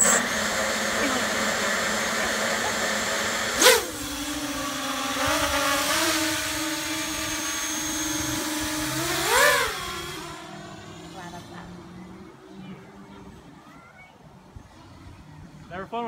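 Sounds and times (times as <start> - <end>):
quadcopter motors whining: 0.0 - 13.7.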